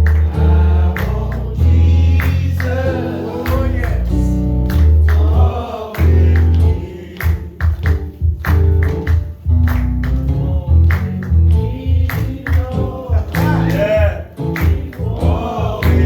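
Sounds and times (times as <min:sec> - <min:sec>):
gospel music with heavy bass: 0:00.0 - 0:16.0.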